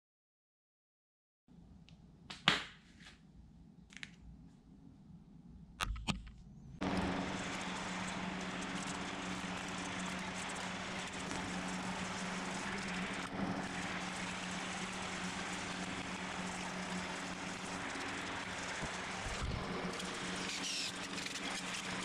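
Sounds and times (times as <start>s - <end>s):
steady whir with low hum: 3.4s - 22.0s.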